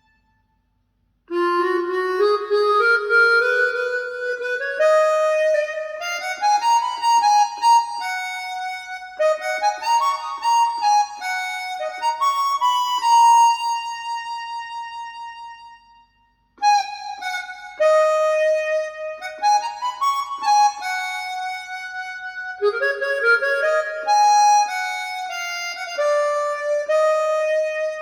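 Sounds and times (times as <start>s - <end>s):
solo harmonica melody: 1.3s - 28.0s.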